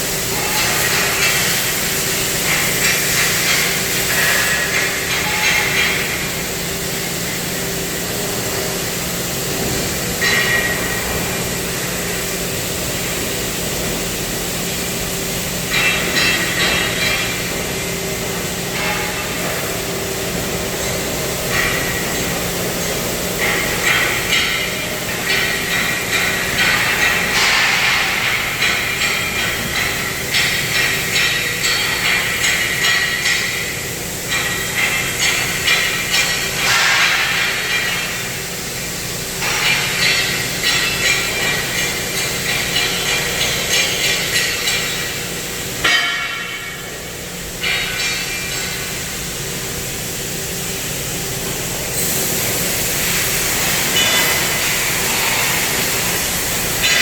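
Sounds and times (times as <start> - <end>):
metal-cutting machine hissing and humming: 0.0 - 57.0.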